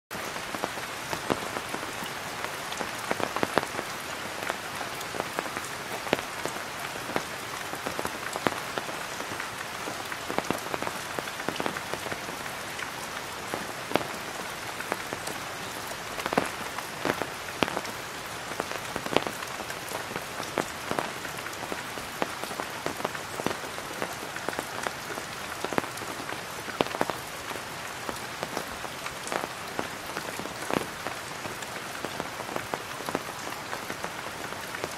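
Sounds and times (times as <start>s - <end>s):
rain pattering on tarpaulin: 0.1s - 34.9s.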